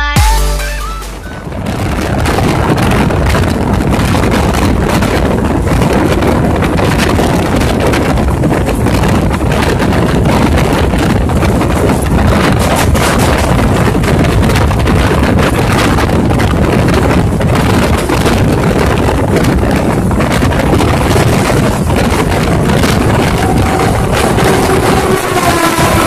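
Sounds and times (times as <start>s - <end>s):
train wheels rumbling on track: 1.0s - 26.0s
wind buffeting microphone: 1.0s - 26.0s.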